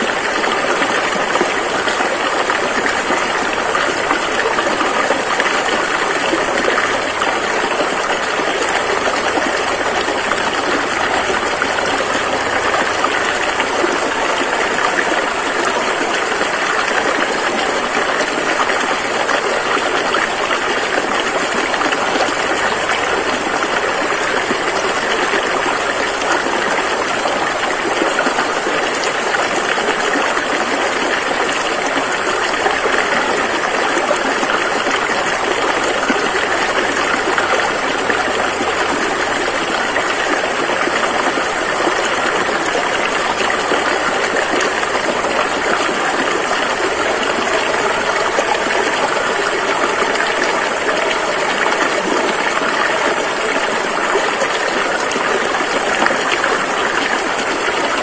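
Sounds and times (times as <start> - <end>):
river water rushing over rapids: 0.0 - 58.0.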